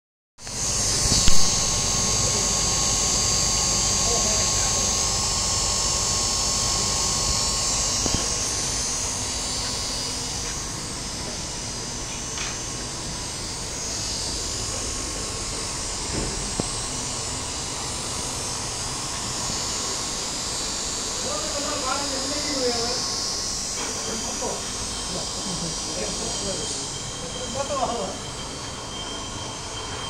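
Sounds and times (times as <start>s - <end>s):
electric pump motor hissing: 0.4s - 30.0s.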